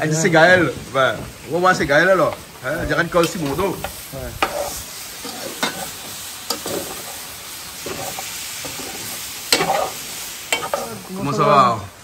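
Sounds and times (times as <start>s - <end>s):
meat frying in oil: 0.0s - 12.0s.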